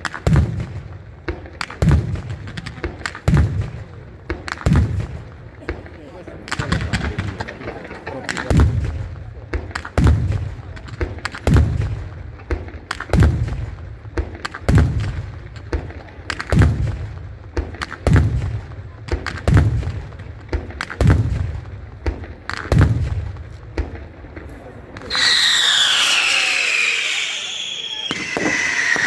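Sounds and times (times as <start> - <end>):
firework booms: 0.0 - 29.0
firework cracks and crackle: 0.0 - 29.0.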